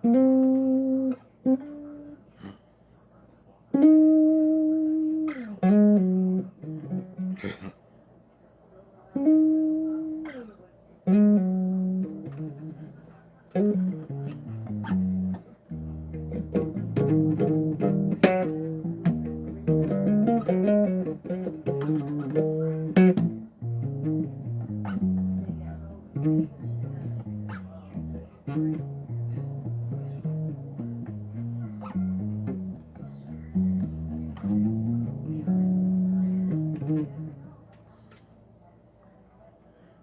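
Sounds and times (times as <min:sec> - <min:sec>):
electric bass guitar: 0:00.0 - 0:02.1, 0:03.7 - 0:07.7, 0:09.2 - 0:37.6.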